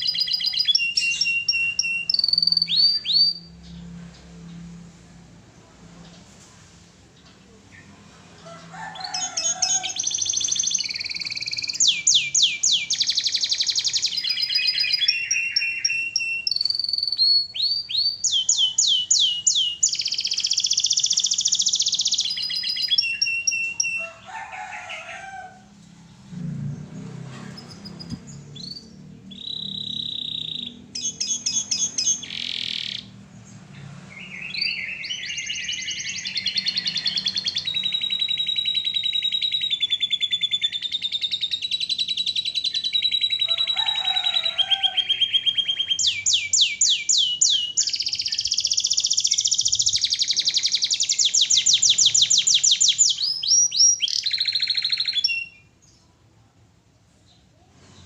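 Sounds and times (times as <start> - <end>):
canary singing trills: 0.0 - 4.7, 7.7 - 25.1, 27.5 - 56.0.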